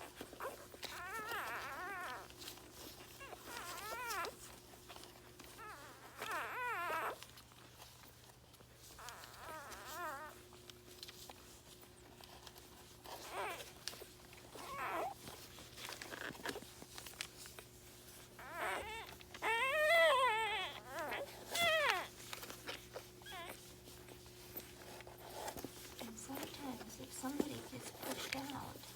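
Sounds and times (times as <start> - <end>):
puppies whimpering and squealing: 0.0 - 28.9.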